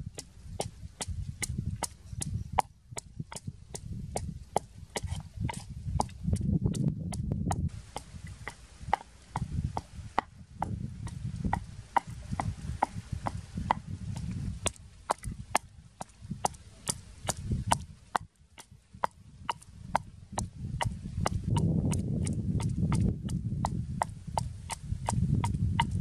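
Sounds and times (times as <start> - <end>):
wooden pestle pounding in mortar: 0.1 - 26.0.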